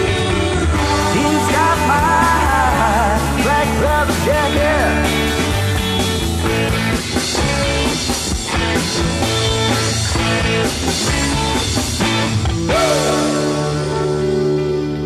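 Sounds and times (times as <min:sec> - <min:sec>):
drums: 0:00.0 - 0:15.0
electric guitar: 0:00.0 - 0:15.0.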